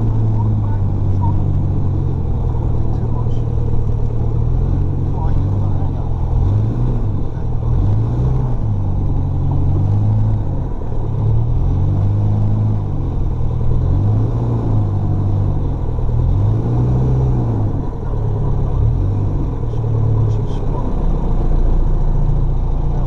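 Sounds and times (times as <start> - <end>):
aircraft engine and propeller drone: 0.0 - 23.0.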